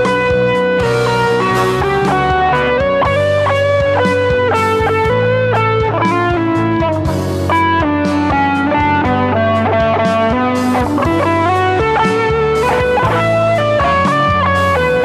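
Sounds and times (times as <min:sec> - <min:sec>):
bass and beat: 0:00.0 - 0:15.0
electric guitar rapid run: 0:00.0 - 0:15.0.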